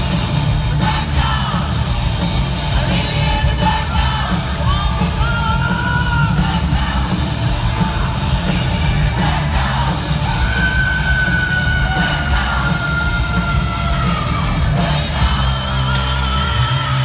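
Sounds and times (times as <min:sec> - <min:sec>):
crowd yelling: 0:00.0 - 0:17.0
distorted electric guitars: 0:00.0 - 0:17.0
drums: 0:00.0 - 0:17.0
live hard rock band: 0:00.0 - 0:17.0.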